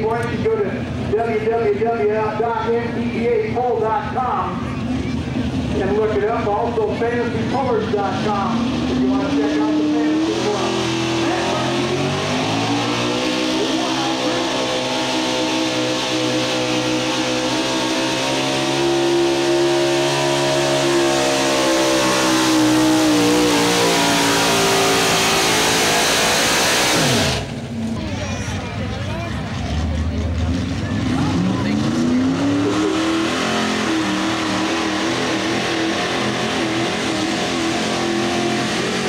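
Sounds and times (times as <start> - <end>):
truck engine at high revs: 0.0 - 39.0.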